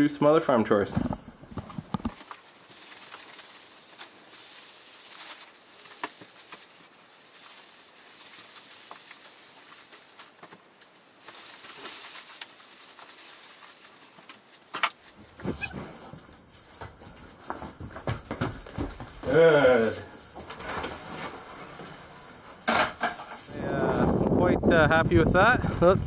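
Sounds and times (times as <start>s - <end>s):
dry hay rustling: 2.2s - 26.0s.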